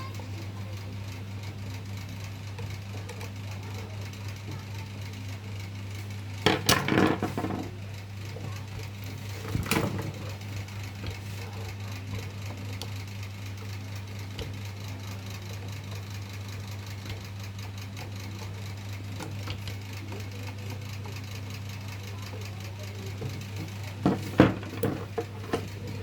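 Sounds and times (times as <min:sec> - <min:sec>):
table fan motor humming: 0:00.0 - 0:26.0.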